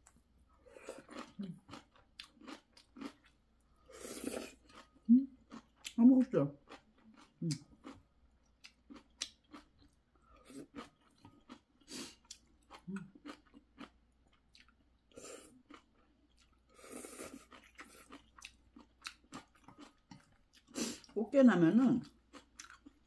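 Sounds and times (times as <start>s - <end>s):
soft chewing with mouth clicks: 0.0s - 6.0s, 6.6s - 21.2s, 22.0s - 23.0s.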